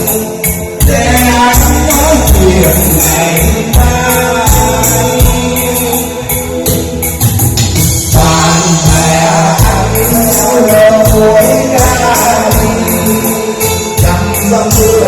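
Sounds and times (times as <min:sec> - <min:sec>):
person singing over band: 0:00.0 - 0:07.2, 0:08.1 - 0:15.0
heavy bass beat: 0:00.0 - 0:15.0.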